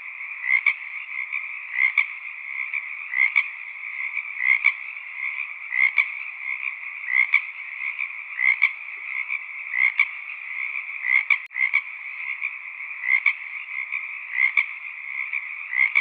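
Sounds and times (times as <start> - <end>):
frog chorus: 0.0 - 16.0
louder frog call: 0.0 - 16.0.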